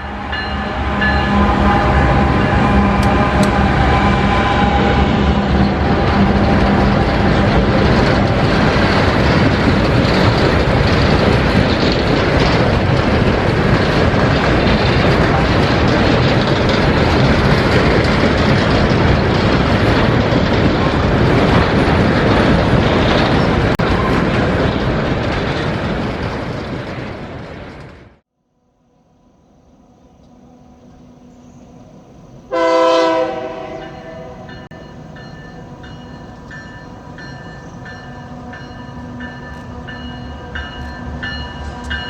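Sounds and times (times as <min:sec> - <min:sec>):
train wheels rumbling on rails: 0:00.0 - 0:28.2, 0:30.2 - 0:42.0.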